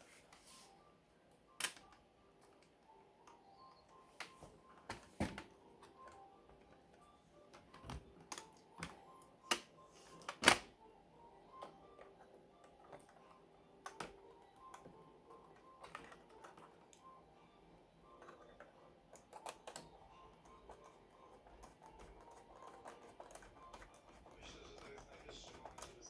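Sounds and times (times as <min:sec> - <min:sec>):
faint background music: 0:00.0 - 0:26.0.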